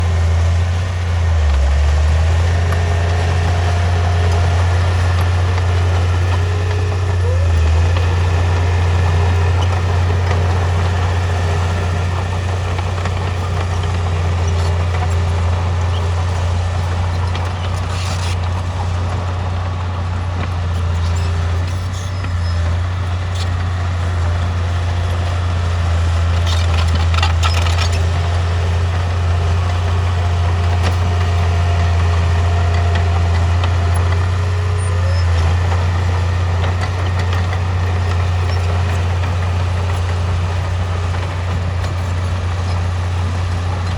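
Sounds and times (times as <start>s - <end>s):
heavy diesel engine drone: 0.0s - 43.9s.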